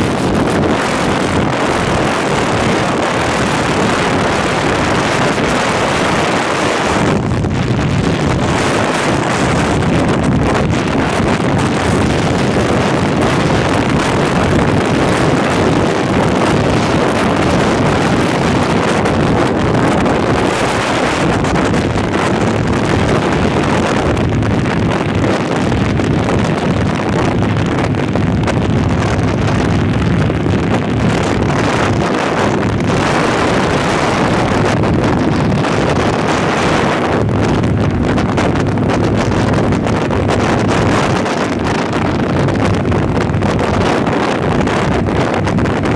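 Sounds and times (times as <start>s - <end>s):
motorcycle engine running: 0.0s - 45.9s
wind buffeting microphone: 0.0s - 45.9s.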